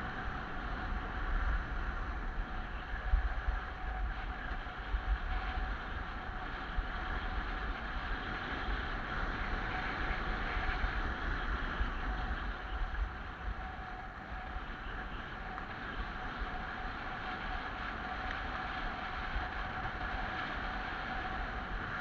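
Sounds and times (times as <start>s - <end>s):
skis scraping over snow: 0.0s - 22.0s
wind buffeting microphone: 0.0s - 22.0s.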